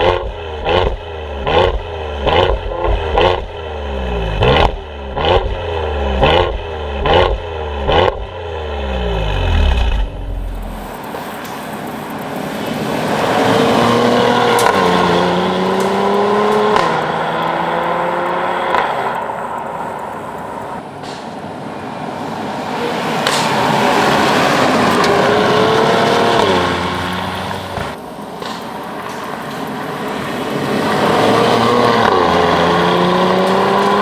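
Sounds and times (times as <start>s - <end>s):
car exhaust accelerating: 0.0s - 21.2s, 22.8s - 34.0s
sharp exhaust cracks: 0.0s - 22.3s, 23.1s - 34.0s.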